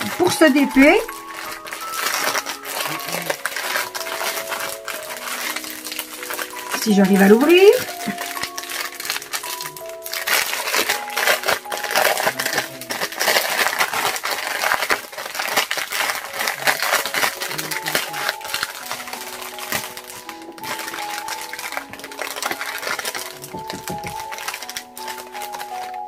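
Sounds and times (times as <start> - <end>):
plastic bags crinkling and clicking: 0.0 - 26.0
soft background music: 0.0 - 26.0.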